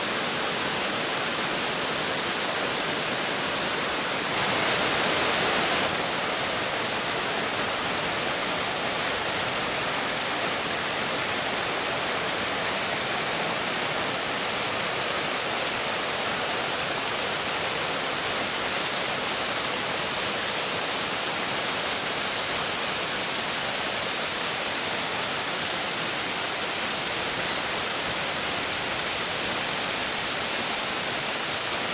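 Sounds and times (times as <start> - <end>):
waterfall rushing over rock: 0.0 - 31.9.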